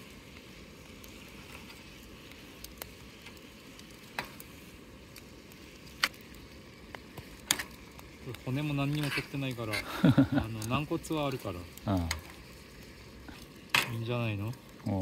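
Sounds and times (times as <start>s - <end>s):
squid sizzling in a pan: 0.0s - 15.0s.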